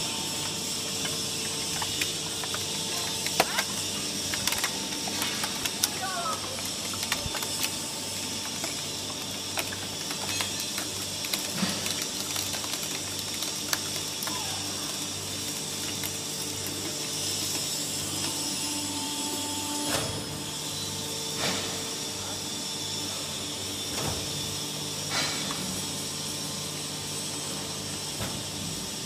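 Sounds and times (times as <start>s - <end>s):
hydraulic power unit hum: 0.0s - 29.0s.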